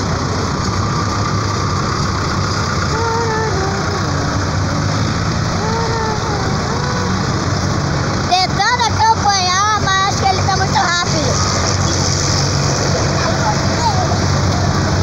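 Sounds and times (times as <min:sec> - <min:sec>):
tractor engine humming: 0:00.0 - 0:15.0
faint voices: 0:02.7 - 0:15.0.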